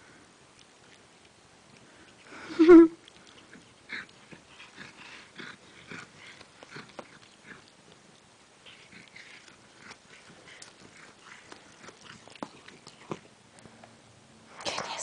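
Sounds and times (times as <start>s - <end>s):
cat chewing grass: 0.0s - 13.8s.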